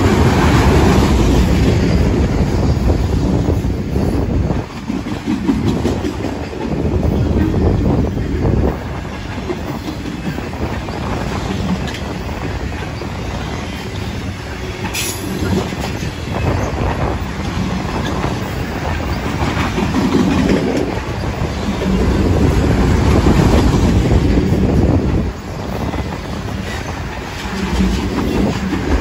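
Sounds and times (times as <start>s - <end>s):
freight cars rumbling on rails: 0.0s - 29.0s.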